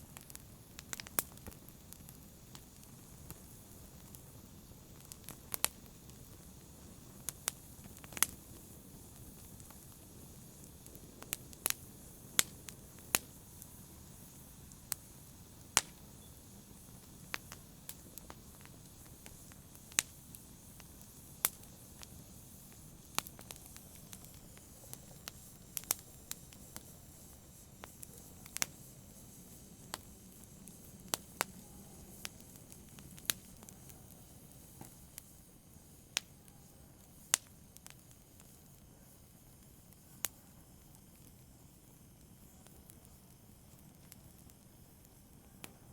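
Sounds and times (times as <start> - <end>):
burning wood crackling and popping: 0.0 - 45.9
campfire hissing: 0.0 - 45.9.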